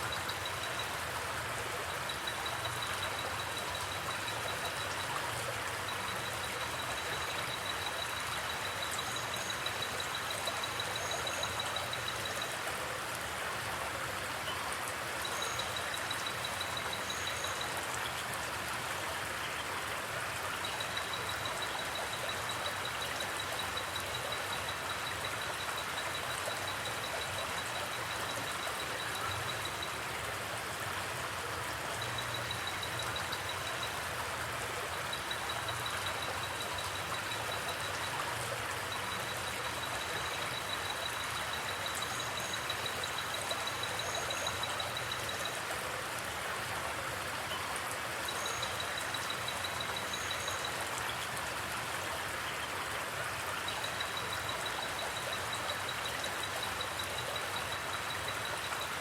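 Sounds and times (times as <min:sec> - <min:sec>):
creek water flowing: 0:00.0 - 0:59.0.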